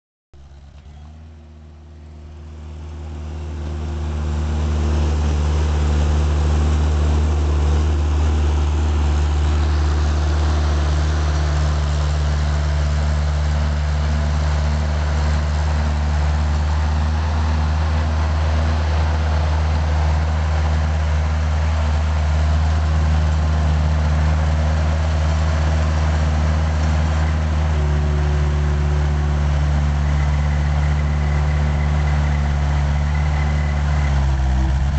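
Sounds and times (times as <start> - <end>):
loader engine droning: 0.4 - 34.9.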